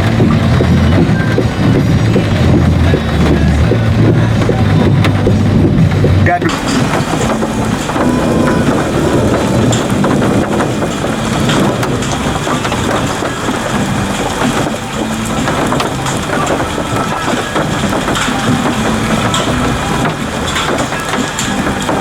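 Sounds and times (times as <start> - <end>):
heavy rain: 0.0 - 22.0
wind: 0.0 - 22.0.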